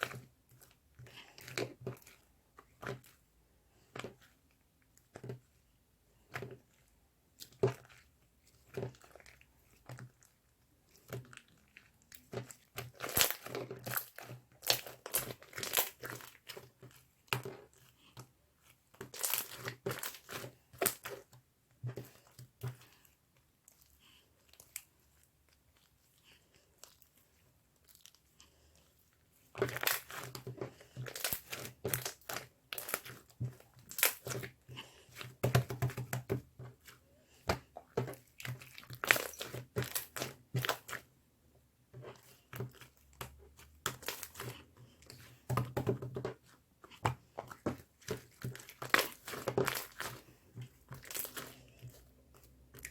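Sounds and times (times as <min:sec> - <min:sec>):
crinkling and crackling: 0:00.0 - 0:41.2, 0:41.8 - 0:52.9.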